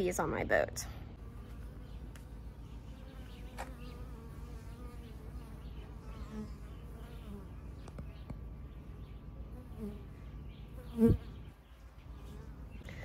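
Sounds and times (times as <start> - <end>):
honeybees buzzing: 0.1 - 13.0.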